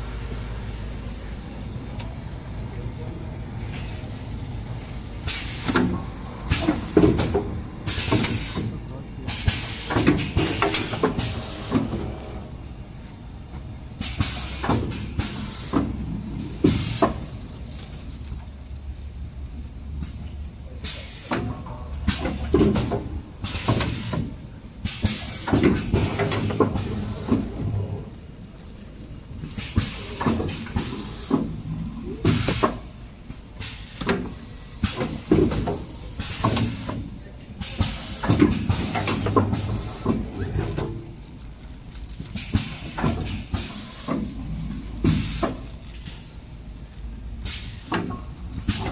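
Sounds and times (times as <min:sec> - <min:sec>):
packing machine hum: 0:00.0 - 0:48.9.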